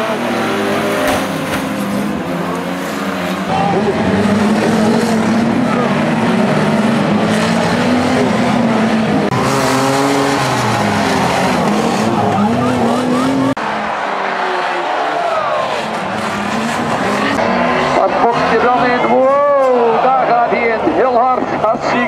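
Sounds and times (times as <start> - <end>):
car engines revving: 0.0 - 22.0
tyres on dirt track: 0.0 - 22.0.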